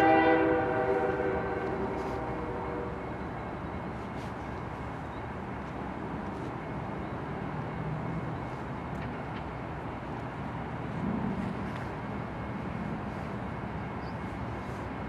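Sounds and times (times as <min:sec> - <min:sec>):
distant diesel locomotive rumble: 0:00.0 - 0:15.0.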